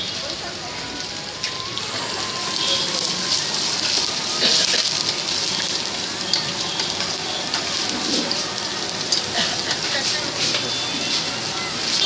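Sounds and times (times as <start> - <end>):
egg sizzling in a pan: 0.9 - 12.0.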